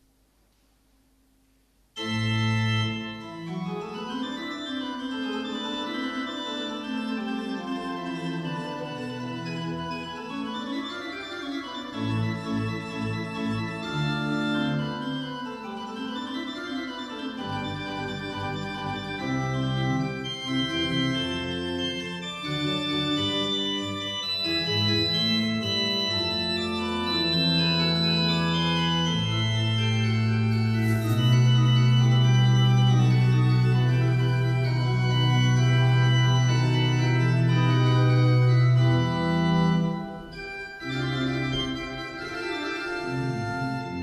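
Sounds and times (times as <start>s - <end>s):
church pipe organ chords: 2.0s - 44.0s.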